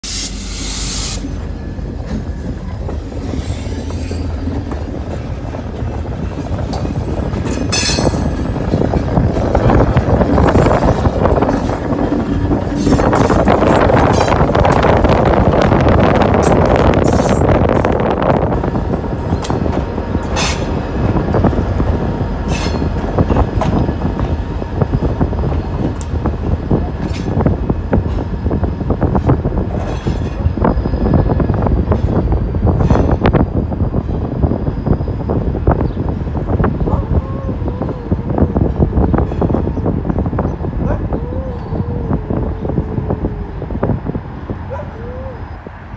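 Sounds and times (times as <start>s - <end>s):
diesel locomotive: 0.0s - 45.9s
train wheels rumbling and clacking: 0.0s - 45.9s.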